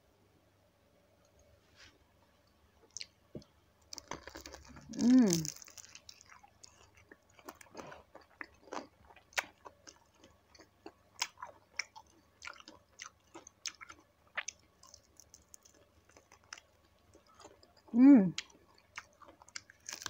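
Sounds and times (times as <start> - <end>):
crunchy chewing: 3.9 - 20.0.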